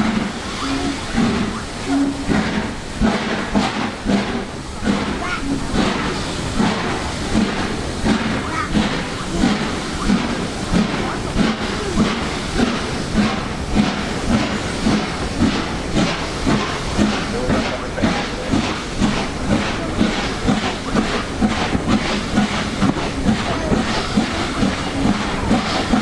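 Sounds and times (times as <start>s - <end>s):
steam hissing: 0.0s - 26.0s
steam locomotive chuffing: 0.0s - 26.0s.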